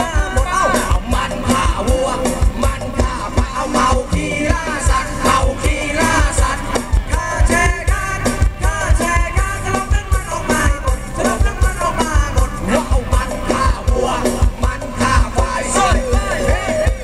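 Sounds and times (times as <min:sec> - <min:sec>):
live band dance music: 0:00.0 - 0:17.0
person singing: 0:00.0 - 0:17.0.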